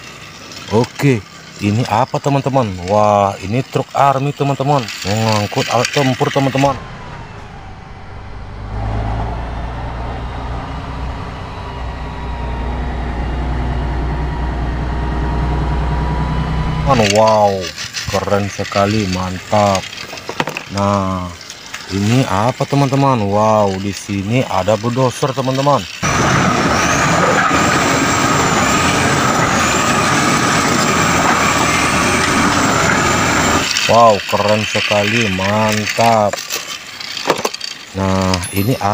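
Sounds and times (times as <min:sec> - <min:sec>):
diesel truck engine driving: 0:00.0 - 0:38.9
thin steady whine: 0:00.0 - 0:38.9.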